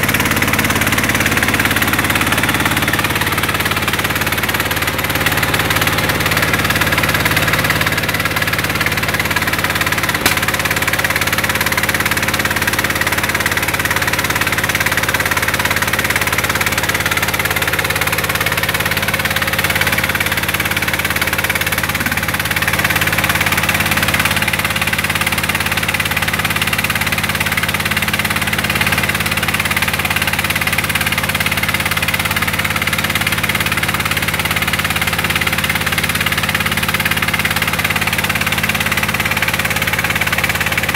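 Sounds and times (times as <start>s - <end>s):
rice milling machine running: 0.0s - 40.9s.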